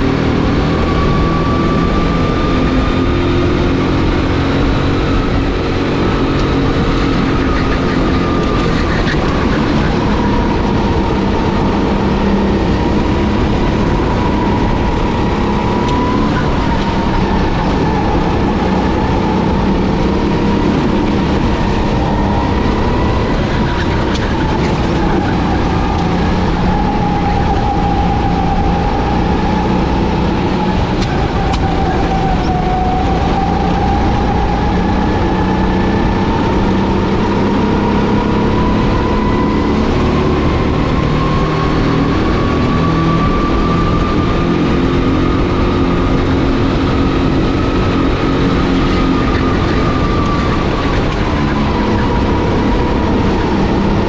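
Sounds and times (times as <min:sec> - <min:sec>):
kart engine rumbling: 0:00.0 - 0:54.0.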